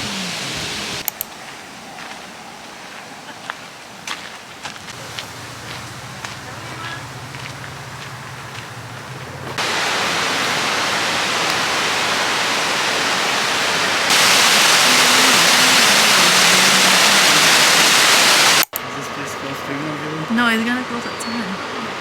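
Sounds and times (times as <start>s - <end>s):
rushing falling water: 0.0s - 22.0s.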